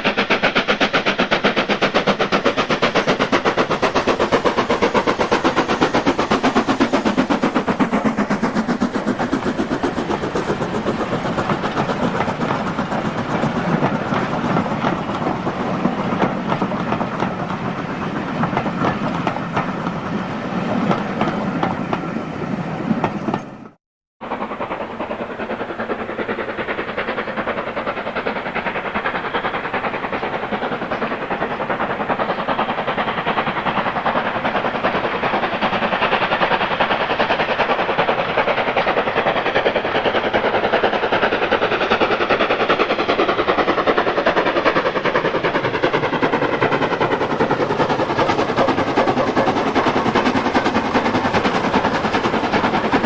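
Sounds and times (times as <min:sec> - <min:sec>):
steam locomotive exhaust beats: 0:00.0 - 0:53.0
wheels clattering on rails: 0:00.0 - 0:53.0.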